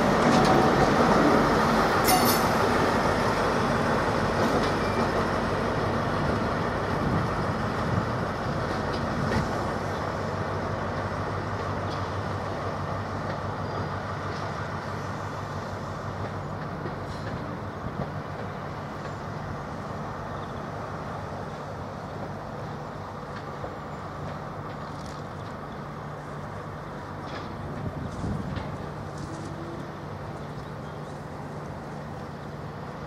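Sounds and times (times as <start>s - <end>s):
train diesel engines droning: 0.0s - 33.0s.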